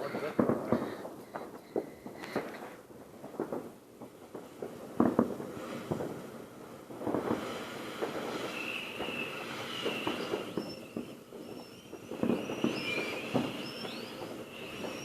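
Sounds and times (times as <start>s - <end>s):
fireworks pops and crackles: 0.0s - 15.0s
fireworks whistles: 0.0s - 15.0s.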